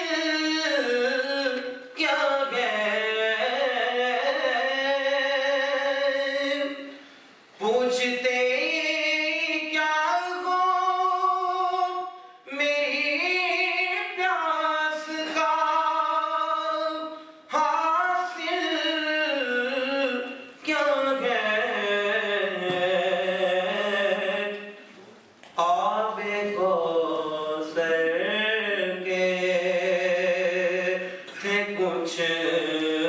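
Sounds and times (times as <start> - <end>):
man singing unaccompanied: 0.0 - 7.0, 7.6 - 24.9, 25.5 - 33.0.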